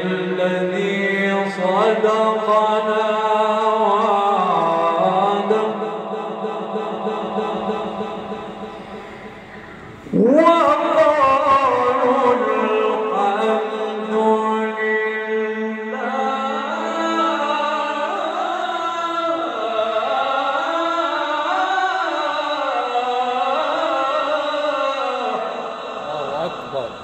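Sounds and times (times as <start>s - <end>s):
man reciting over loudspeakers: 0.0s - 27.0s.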